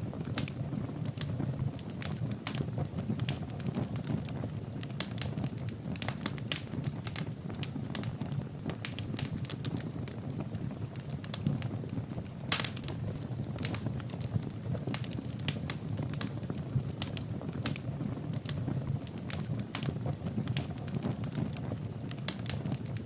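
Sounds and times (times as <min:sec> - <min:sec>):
fire rumbling: 0:00.0 - 0:23.0
logs crackling and popping: 0:00.0 - 0:23.0.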